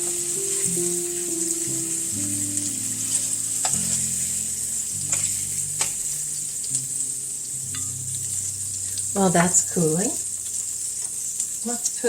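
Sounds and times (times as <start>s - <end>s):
soft background music: 0.0s - 11.3s
oil sizzling in a frying pan: 0.0s - 12.0s.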